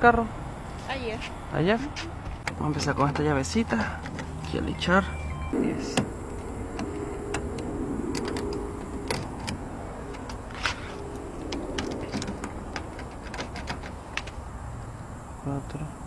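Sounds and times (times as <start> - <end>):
low steady hum: 2.0 - 16.0.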